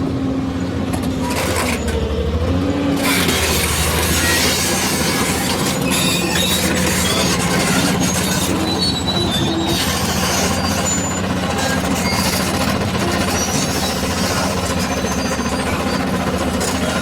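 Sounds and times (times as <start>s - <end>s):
excavator diesel engine misfiring: 0.1s - 17.0s.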